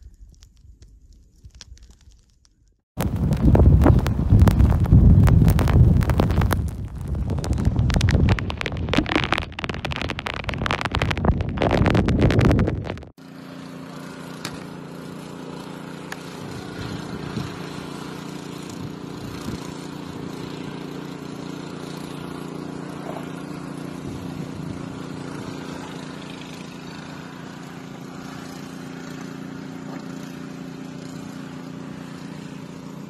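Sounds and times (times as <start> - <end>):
vehicle engine running: 3.0 - 33.0.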